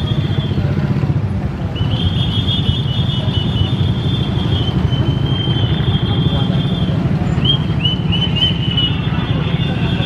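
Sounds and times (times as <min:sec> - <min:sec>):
train wheels squealing on rails: 0:01.6 - 0:10.0.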